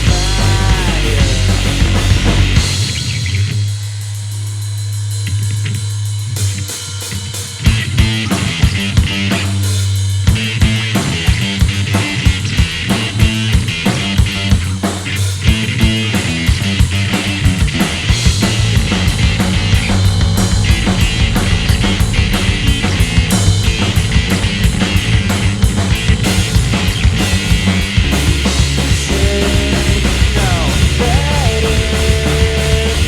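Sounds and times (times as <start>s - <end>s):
rock band playing: 0.0s - 4.2s, 5.2s - 33.0s
drum kit fast beat: 0.0s - 33.0s.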